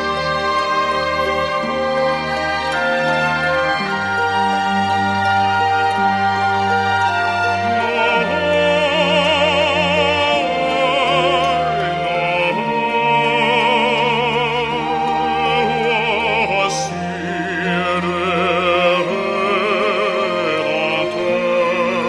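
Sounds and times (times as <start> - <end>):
operatic singing voice: 0.0 - 22.0
orchestral accompaniment: 0.0 - 22.0.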